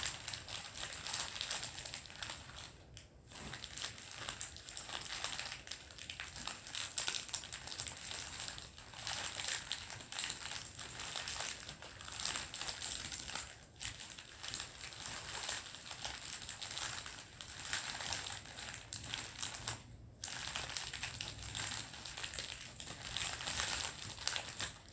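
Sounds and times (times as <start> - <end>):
plastic wrapper crinkling: 0.0 - 24.9.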